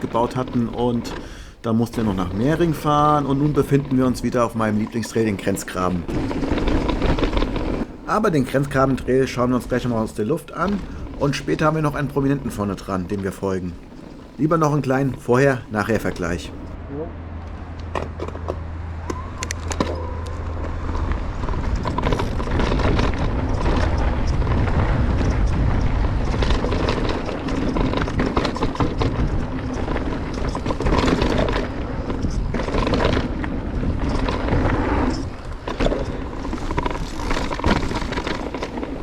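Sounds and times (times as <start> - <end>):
bike tyres rumbling on trail: 0.0 - 16.8, 17.5 - 39.0
wind noise: 0.0 - 39.0.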